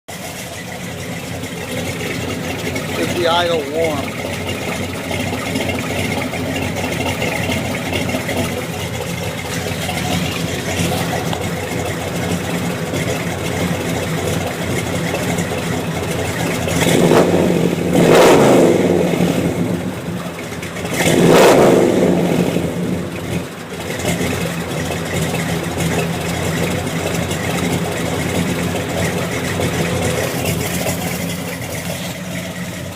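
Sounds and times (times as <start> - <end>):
car engine idling: 0.0 - 32.9
engine revving: 0.2 - 32.9.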